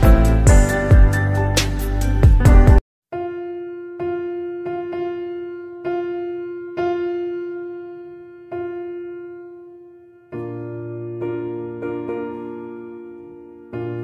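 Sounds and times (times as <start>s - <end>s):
slow piano-like keyboard notes: 0.0s - 14.0s.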